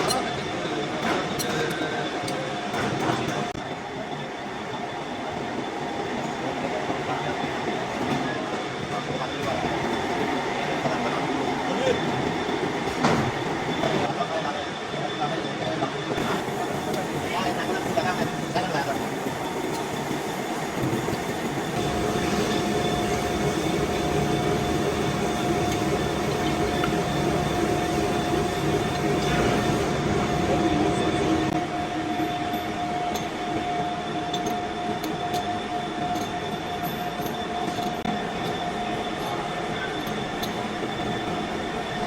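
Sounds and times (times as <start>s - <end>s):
metal lathe whining: 3.4s - 14.1s, 16.2s - 42.0s.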